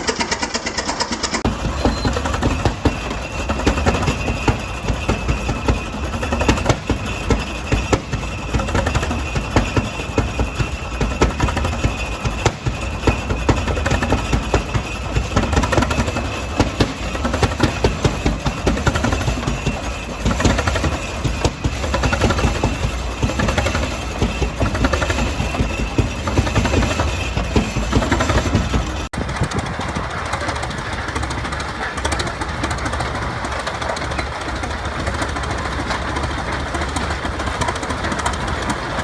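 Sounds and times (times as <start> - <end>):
another engine running: 0.0 - 39.0
old engine running: 0.0 - 39.0.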